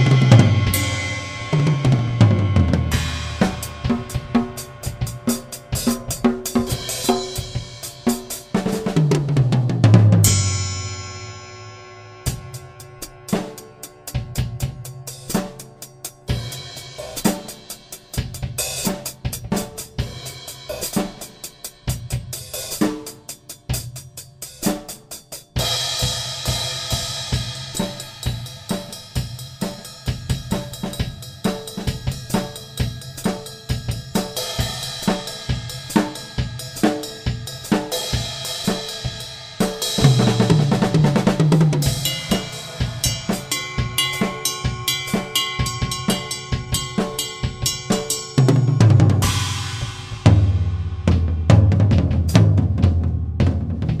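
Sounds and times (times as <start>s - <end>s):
cymbal wash: 0.0s - 8.8s, 10.2s - 19.3s, 24.4s - 51.6s
drum kit playing fills: 0.0s - 54.0s.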